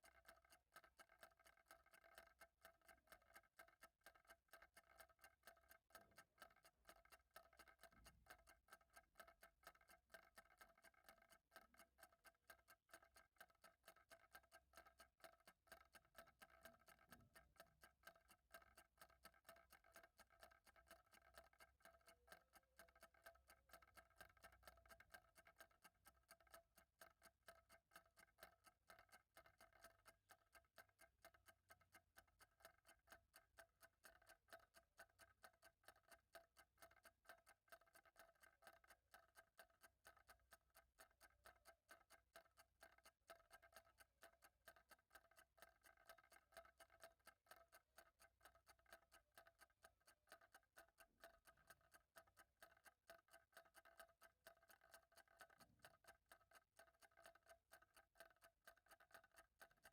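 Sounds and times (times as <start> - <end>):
faint clock ticking: 0.0 - 59.9.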